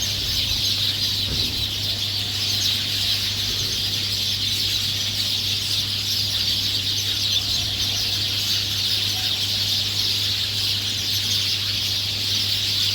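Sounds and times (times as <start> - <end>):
flock of birds calling: 0.0 - 12.9.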